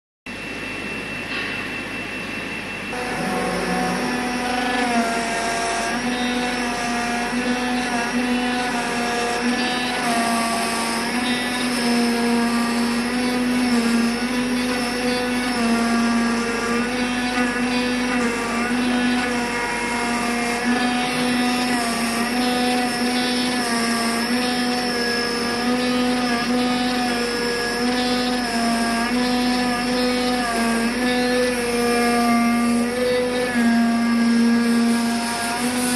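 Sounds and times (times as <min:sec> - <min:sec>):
cutting machine motor whine: 0:00.3 - 0:35.9.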